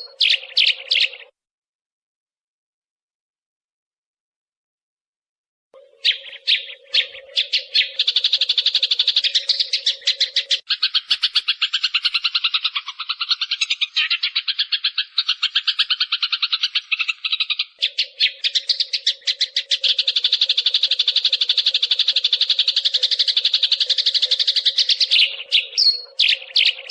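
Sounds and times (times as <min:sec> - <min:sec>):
sparrows chirping: 0:00.0 - 0:01.3, 0:05.8 - 0:26.9.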